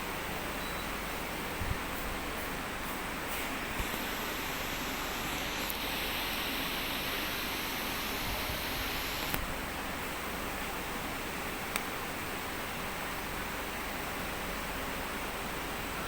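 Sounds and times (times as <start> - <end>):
air conditioner fan rushing: 0.0 - 16.0.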